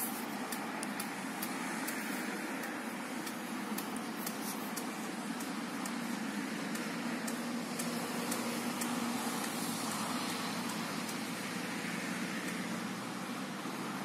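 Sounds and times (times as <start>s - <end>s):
faint sharp ticks: 0.0s - 13.1s
low engine hum: 0.0s - 14.0s.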